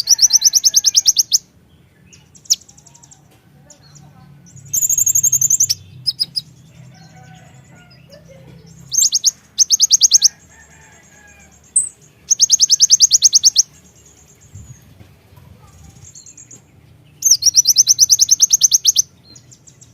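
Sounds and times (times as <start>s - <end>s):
high-pitched bird trills: 0.0s - 1.5s, 2.1s - 19.9s.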